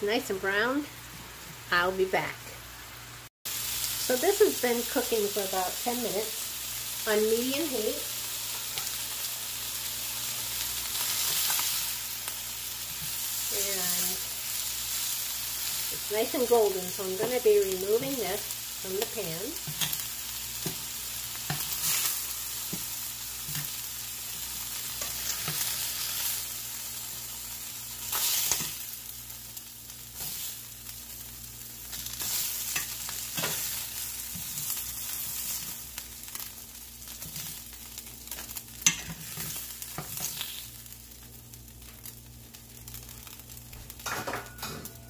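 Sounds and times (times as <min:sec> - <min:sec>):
chicken sizzling in hot oil: 0:00.0 - 0:45.0.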